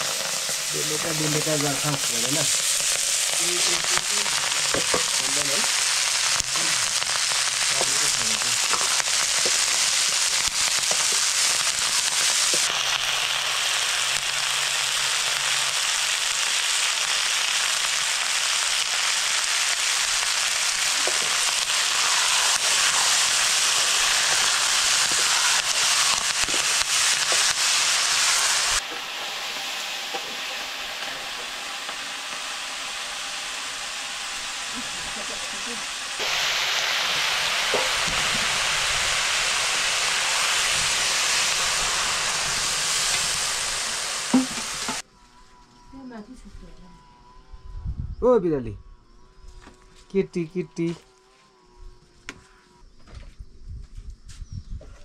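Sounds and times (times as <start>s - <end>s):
food sizzling in hot oil: 0.0s - 45.0s.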